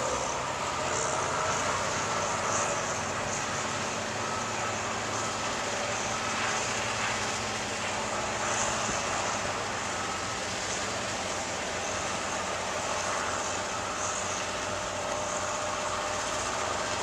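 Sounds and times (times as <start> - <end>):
constant rushing noise: 0.0 - 17.0
low engine drone: 0.0 - 17.0.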